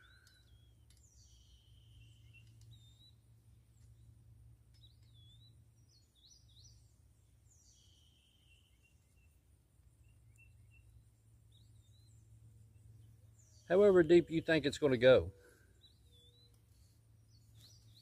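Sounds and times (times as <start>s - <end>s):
bird chirps: 0.0s - 4.1s, 4.7s - 18.0s
low steady hum: 0.0s - 18.0s.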